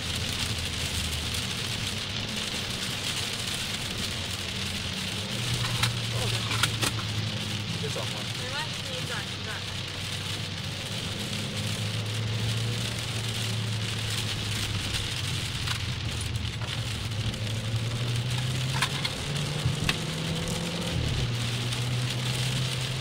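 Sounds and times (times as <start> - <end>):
car engine drone: 0.0 - 23.0
heavy rain on windscreen: 0.0 - 23.0.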